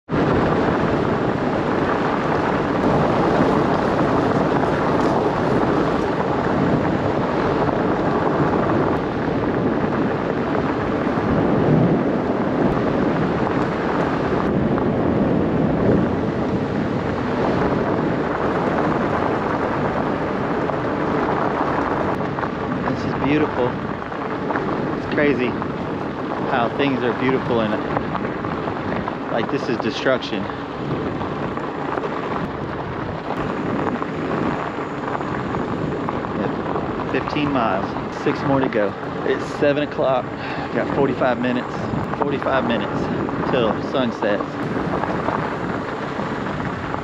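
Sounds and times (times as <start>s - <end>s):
wind buffeting microphone: 0.0s - 47.0s
bike tyres rolling on gravel: 0.1s - 47.0s.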